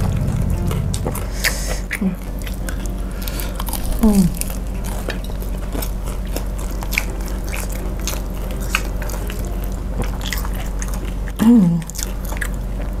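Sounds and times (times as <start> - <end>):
steady low hum: 0.0 - 13.0
chewing with wet mouth clicks: 0.8 - 13.0.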